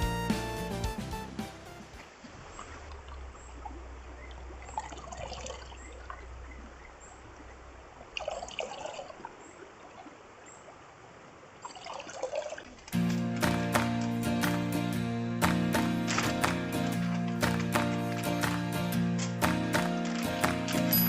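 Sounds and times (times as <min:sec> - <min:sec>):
stream trickling over rocks: 0:01.9 - 0:14.3, 0:15.8 - 0:21.0.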